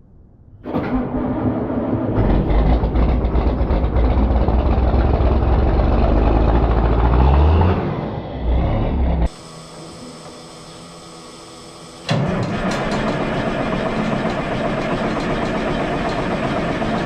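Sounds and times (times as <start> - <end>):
heavy vehicle engine rumbling: 0.6 - 17.0.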